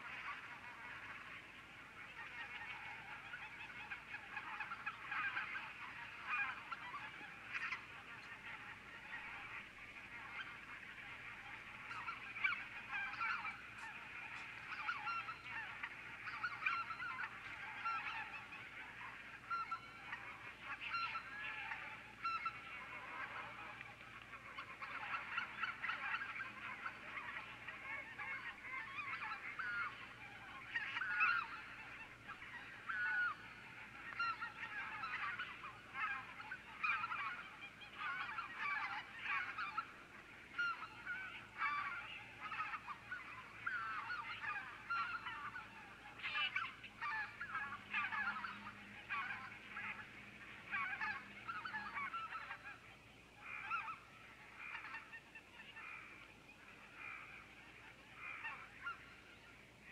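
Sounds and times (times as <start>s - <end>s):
geese honking: 0.0s - 59.9s.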